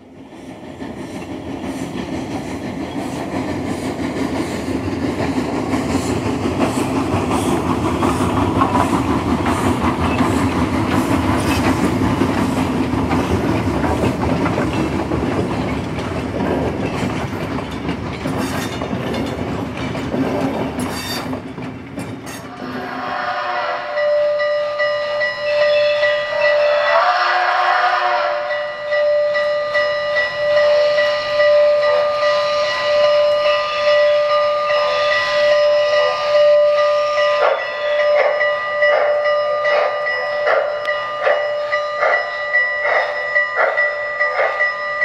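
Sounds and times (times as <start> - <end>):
train wheels clacking on rails: 0.0 - 27.5, 28.1 - 45.0.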